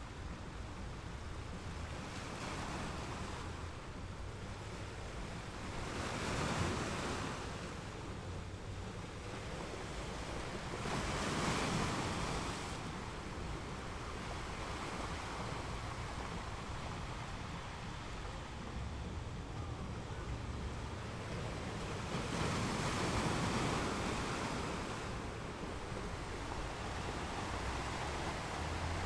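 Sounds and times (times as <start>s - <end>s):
ocean waves breaking: 0.0s - 29.0s.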